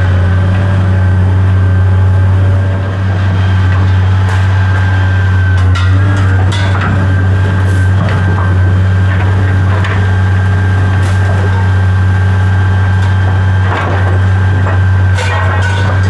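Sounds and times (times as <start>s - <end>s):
high machine whine: 0.0s - 16.0s
machine humming: 0.0s - 16.0s.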